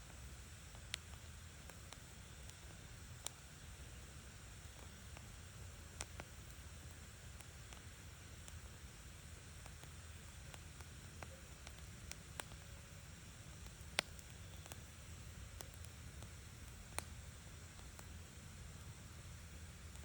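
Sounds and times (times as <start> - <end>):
small pops: 0.0 - 20.0
wood fire crackling: 0.0 - 20.0.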